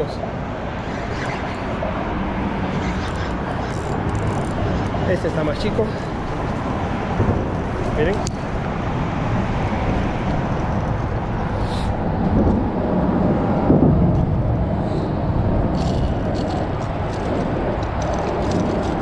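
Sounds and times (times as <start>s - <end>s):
traffic rumble on bridge: 0.0s - 19.0s.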